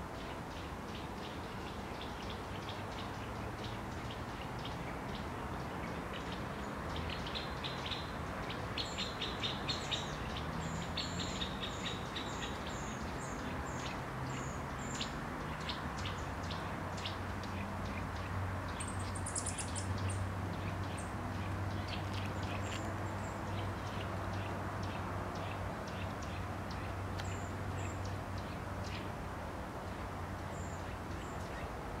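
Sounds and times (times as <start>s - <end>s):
small birds chirping: 0.1s - 29.1s.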